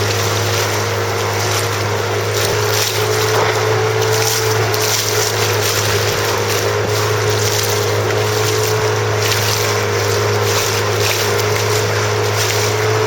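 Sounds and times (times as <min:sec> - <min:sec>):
constant rushing noise: 0:00.0 - 0:13.0
motor hum: 0:00.0 - 0:13.0.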